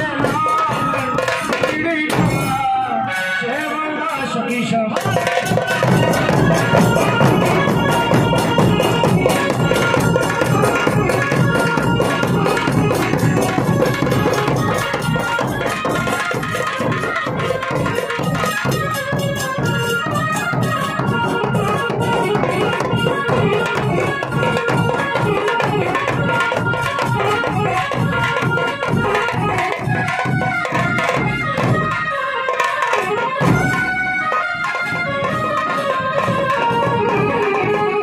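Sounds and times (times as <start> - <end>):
stick-beaten frame drum: 0.0 - 2.9, 4.9 - 38.0
folk drumming on barrel drums: 0.0 - 3.0, 4.9 - 38.0.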